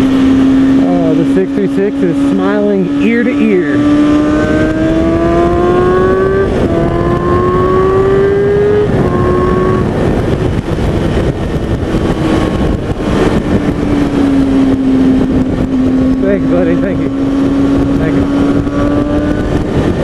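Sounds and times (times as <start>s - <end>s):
motorcycle engine accelerating: 0.0s - 20.0s
wind rushing on microphone: 0.0s - 20.0s.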